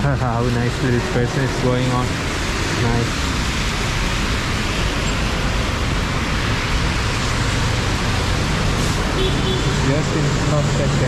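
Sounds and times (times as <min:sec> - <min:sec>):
heavy rain falling: 0:00.0 - 0:11.0
passing road traffic rumble: 0:00.0 - 0:11.0.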